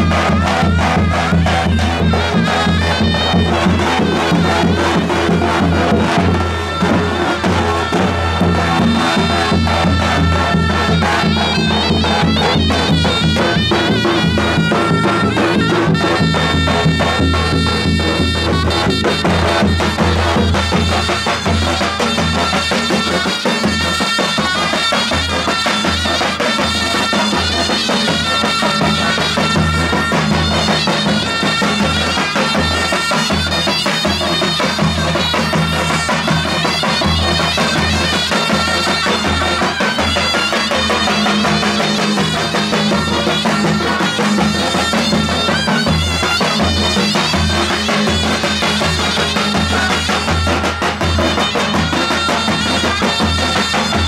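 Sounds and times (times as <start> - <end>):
large drum beat: 0.0 - 54.0
reedy zurna melody: 0.0 - 54.0.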